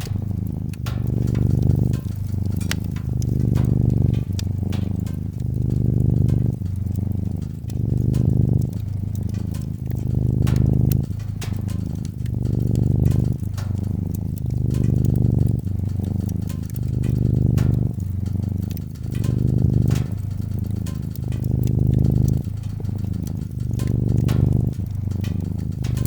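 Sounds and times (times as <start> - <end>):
cat purring: 0.0 - 26.0
wood fire crackling: 0.0 - 26.0.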